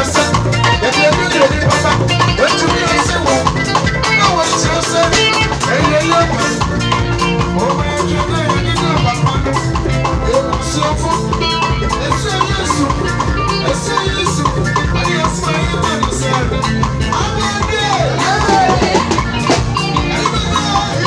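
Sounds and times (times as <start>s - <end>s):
drum kit: 0.0s - 21.0s
electric guitar: 0.0s - 21.0s
hand drum: 0.0s - 21.0s.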